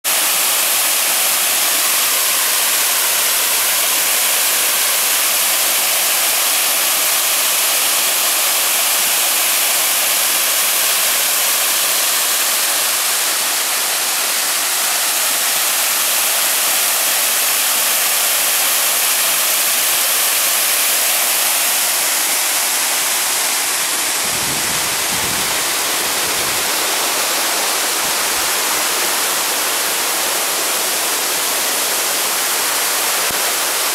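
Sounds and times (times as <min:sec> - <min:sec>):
small waterfall rushing: 0:00.0 - 0:33.9.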